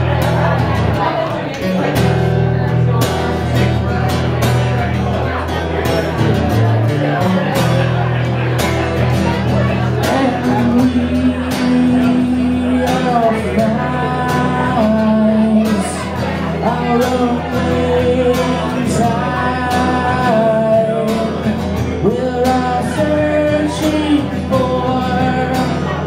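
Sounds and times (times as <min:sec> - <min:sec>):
man singing: 0:00.0 - 0:26.0
strummed acoustic guitar: 0:00.0 - 0:26.0.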